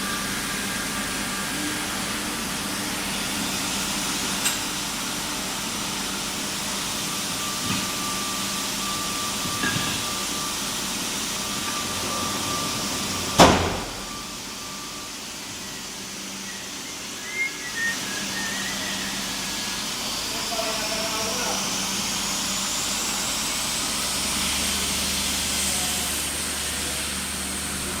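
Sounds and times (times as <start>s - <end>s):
machine humming with hiss: 0.0s - 28.0s
thin machine whine: 0.0s - 28.0s.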